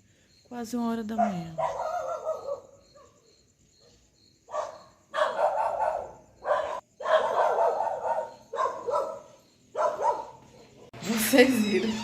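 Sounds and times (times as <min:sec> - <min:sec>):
dog barking: 0:01.2 - 0:11.0.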